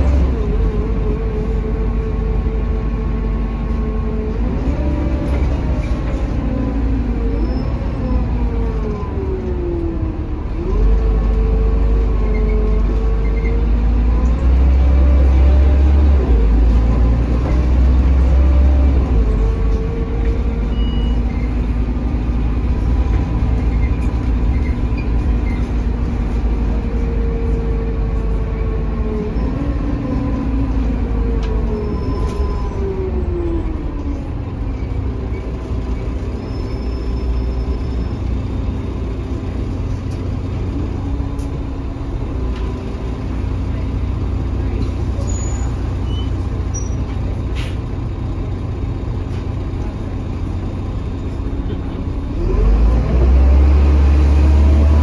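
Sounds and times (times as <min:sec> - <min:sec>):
bus interior diesel engine: 0:00.0 - 0:55.0.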